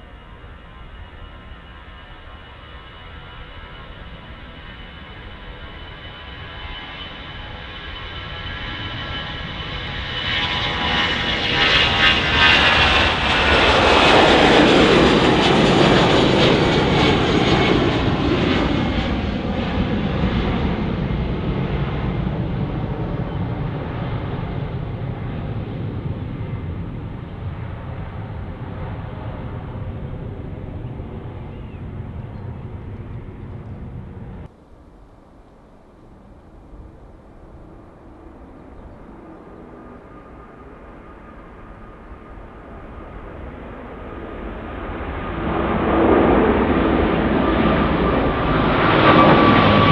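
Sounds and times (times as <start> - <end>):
jet taking off: 0.0 - 34.5, 38.6 - 49.9.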